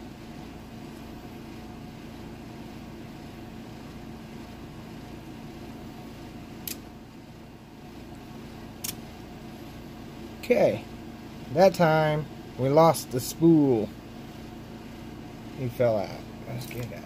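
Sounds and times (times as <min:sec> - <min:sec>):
mechanical room hum: 0:00.0 - 0:17.0.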